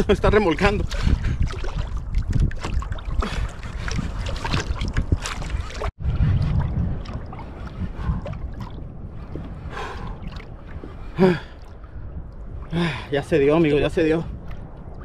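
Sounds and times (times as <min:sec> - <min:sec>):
water rushing along kayak hull: 0:00.0 - 0:15.0.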